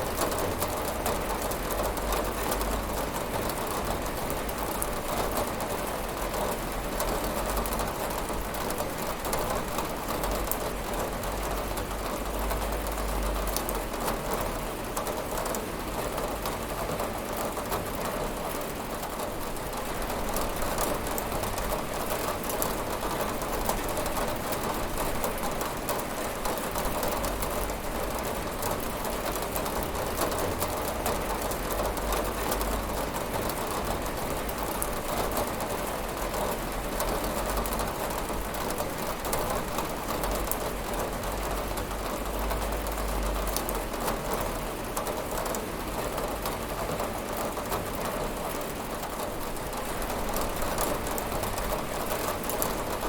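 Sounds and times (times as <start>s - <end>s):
rain on a window: 0.0s - 53.0s.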